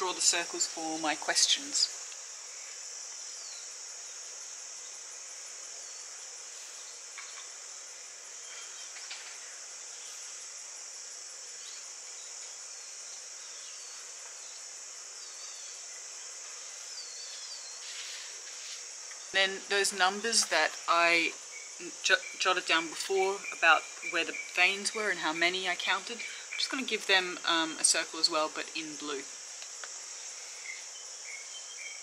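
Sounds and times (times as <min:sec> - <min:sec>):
insect chorus droning: 0:00.0 - 0:32.0.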